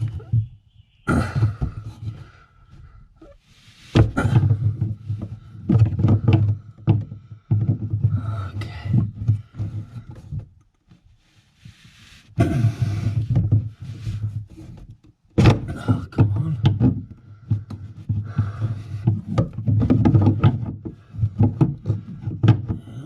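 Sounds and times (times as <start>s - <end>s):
knocks scrapes and rubbing: 0.0s - 23.0s.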